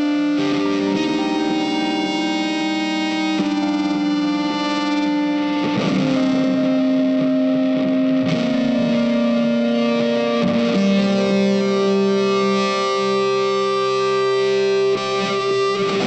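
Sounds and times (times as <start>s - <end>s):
guitar notes with effects: 0.0s - 16.0s.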